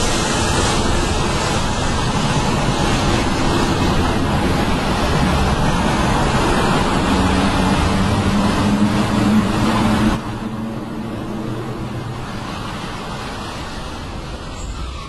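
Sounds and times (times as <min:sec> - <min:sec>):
road noise rushing: 0:00.0 - 0:15.0.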